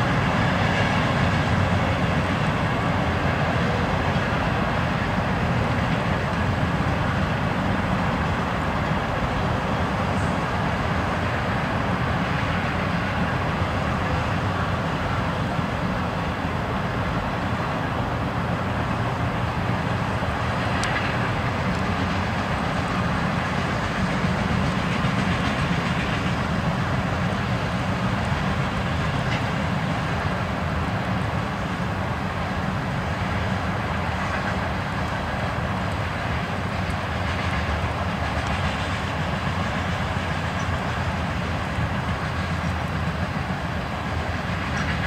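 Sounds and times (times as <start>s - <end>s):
freight train cars rumbling: 0.0s - 45.0s.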